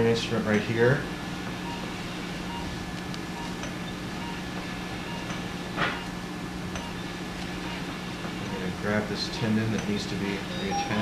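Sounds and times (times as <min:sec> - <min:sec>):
low hum of medical equipment: 0:00.0 - 0:11.0.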